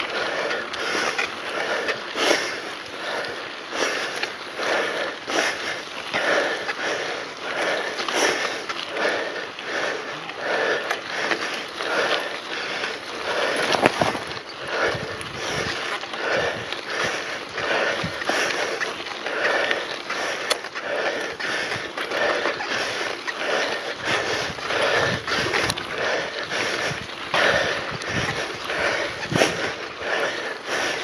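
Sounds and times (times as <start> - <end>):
bike rattling on dirt: 0.0 - 31.0
rider breathing hard: 0.0 - 31.0.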